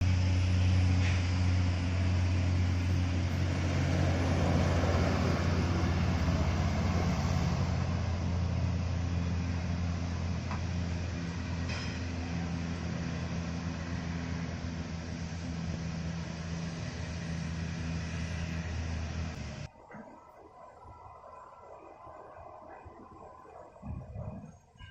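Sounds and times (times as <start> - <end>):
diesel truck engine running: 0.0 - 24.8.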